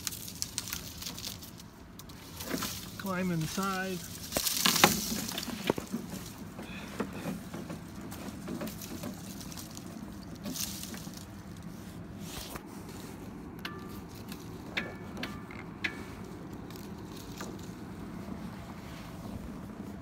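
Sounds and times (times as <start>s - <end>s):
rustling and scraping: 0.0s - 20.0s
steady low hum: 0.0s - 20.0s.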